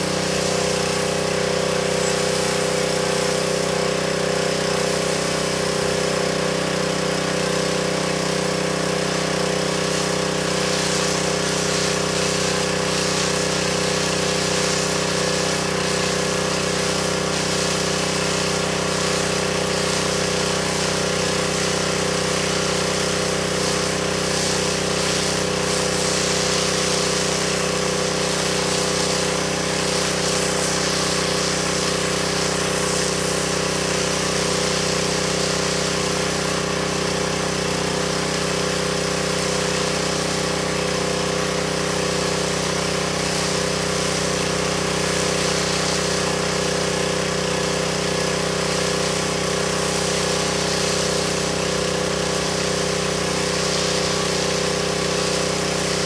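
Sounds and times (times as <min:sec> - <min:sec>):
pressure washer engine running: 0:00.0 - 0:56.0
water spray hiss: 0:00.0 - 0:56.0.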